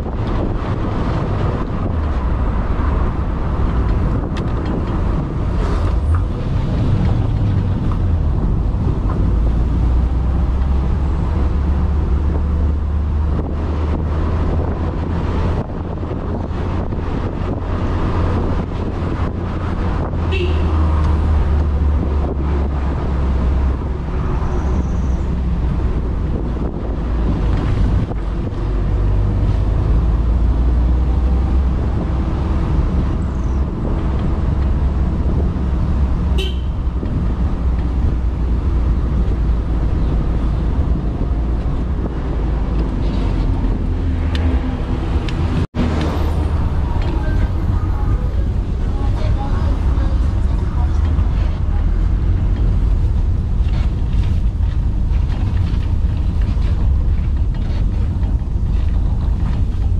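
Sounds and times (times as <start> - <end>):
car road noise rumble: 0.0 - 59.9
wind buffeting microphone: 0.0 - 59.9.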